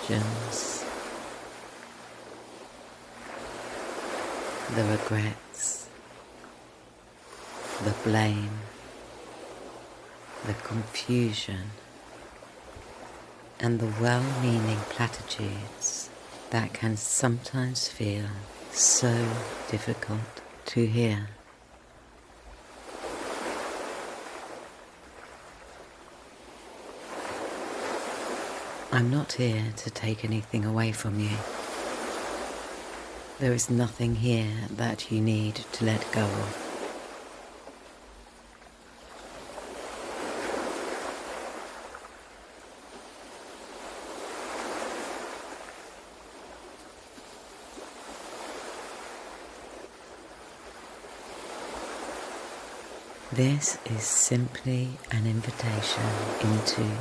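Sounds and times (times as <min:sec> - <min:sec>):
ocean waves washing in: 0:00.0 - 0:57.0.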